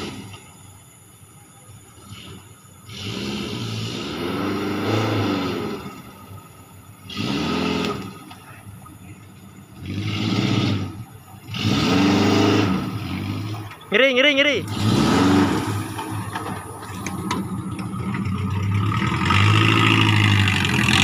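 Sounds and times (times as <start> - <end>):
off-road engine revving: 0.0 - 0.7, 1.7 - 21.0.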